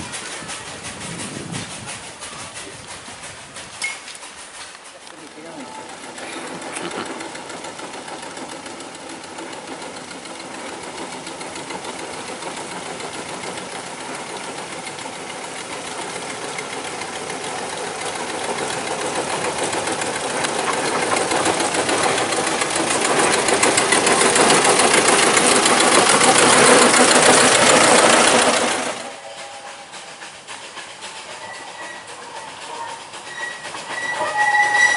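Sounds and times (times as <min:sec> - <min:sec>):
small locomotive engine passing: 0:00.0 - 0:34.9.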